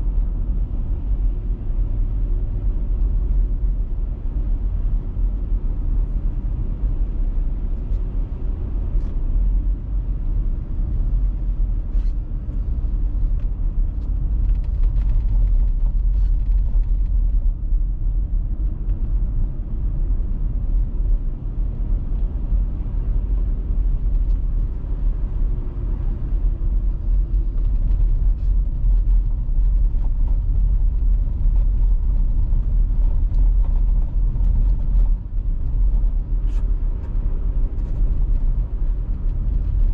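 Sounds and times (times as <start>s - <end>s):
car driving with low rumble: 0.0s - 39.9s.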